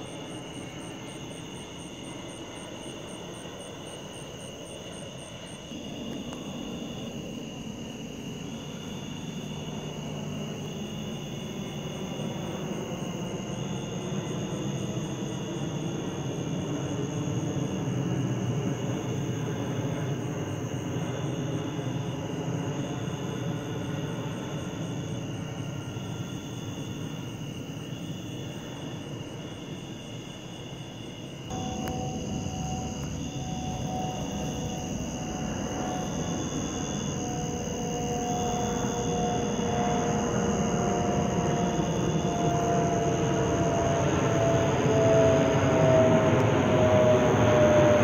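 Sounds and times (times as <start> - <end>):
airplane flying over: 0.0 - 48.0.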